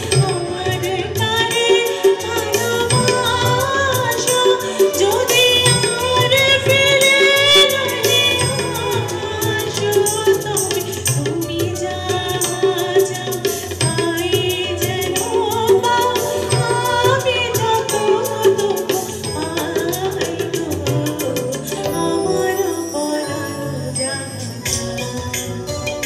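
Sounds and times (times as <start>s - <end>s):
tabla strokes: 0.0s - 23.4s, 24.0s - 26.0s
keyboard: 0.0s - 26.0s
woman singing: 0.0s - 26.0s.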